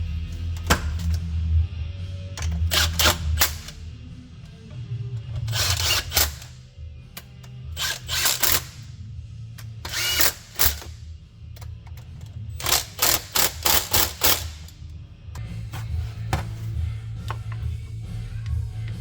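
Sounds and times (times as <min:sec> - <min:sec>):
background music with bass: 0:00.0 - 0:19.0.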